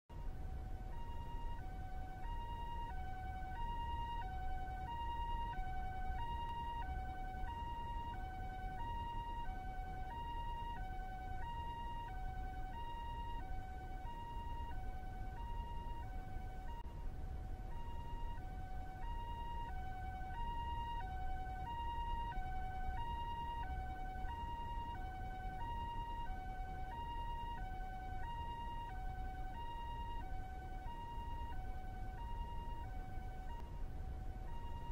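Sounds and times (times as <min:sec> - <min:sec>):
city background rumble: 0:00.1 - 0:34.9
two-tone ambulance siren: 0:00.1 - 0:34.9.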